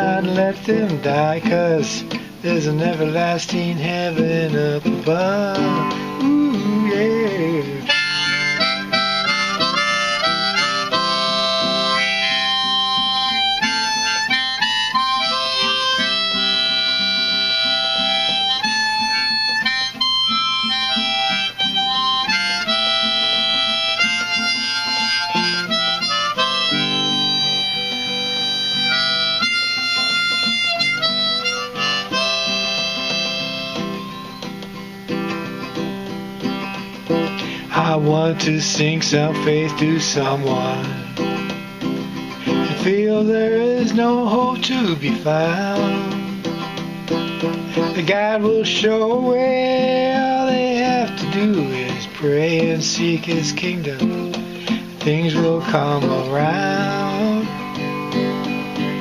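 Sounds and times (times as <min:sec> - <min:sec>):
acoustic guitar: 0:00.0 - 0:59.0
harmonica melody: 0:00.0 - 0:59.0.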